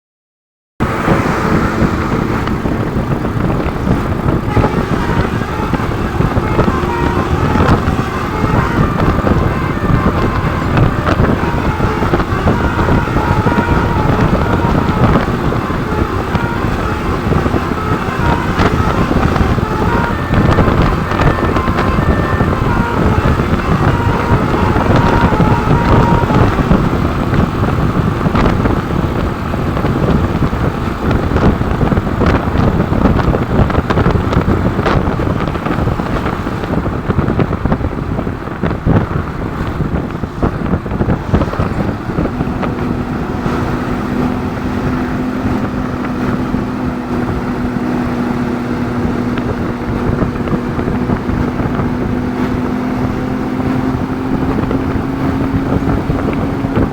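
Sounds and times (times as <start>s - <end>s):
bus musical horn: 0.8s - 56.9s
road vehicle noise: 0.8s - 56.9s
wind buffeting microphone: 0.8s - 56.9s.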